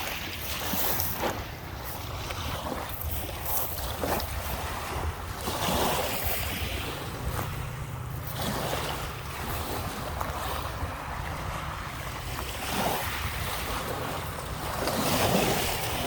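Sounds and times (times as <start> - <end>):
waves washing onto beach: 0.0 - 16.0
wind buffeting microphone: 0.0 - 16.0.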